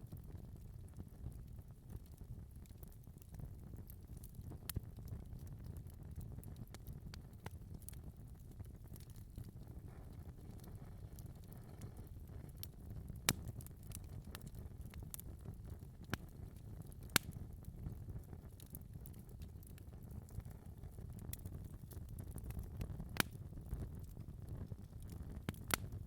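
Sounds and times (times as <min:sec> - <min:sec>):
wood fire crackling in fireplace: 0:00.0 - 0:26.0.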